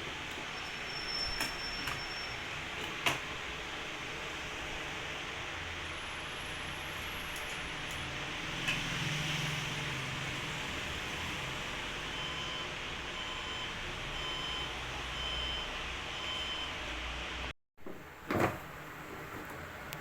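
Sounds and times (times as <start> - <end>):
computer fans humming: 0.0 - 20.0.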